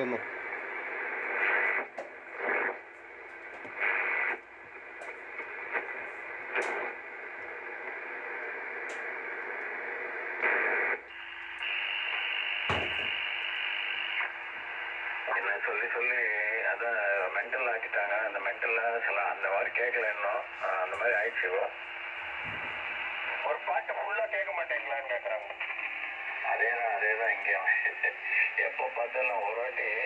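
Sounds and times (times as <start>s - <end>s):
radio signal bursts: 0.0s - 26.5s
low steady radio tone: 0.0s - 30.0s
radio static hiss: 0.0s - 30.0s.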